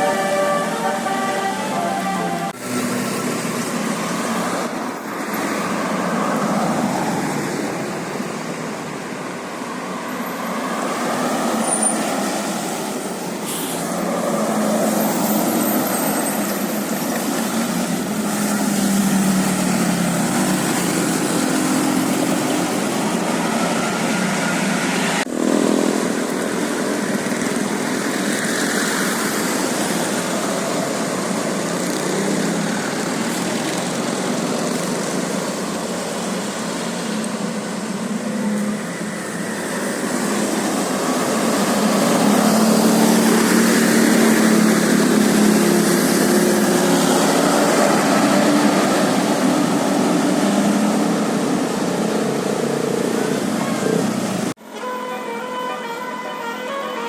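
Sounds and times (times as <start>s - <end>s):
heavy vehicle engine: 0.0s - 55.6s
traffic engines running: 0.0s - 57.0s.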